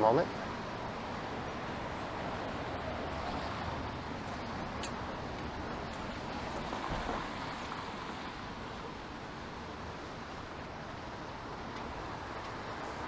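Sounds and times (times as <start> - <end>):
passing traffic: 0.0 - 13.0
tyres hissing on wet road: 0.6 - 13.0.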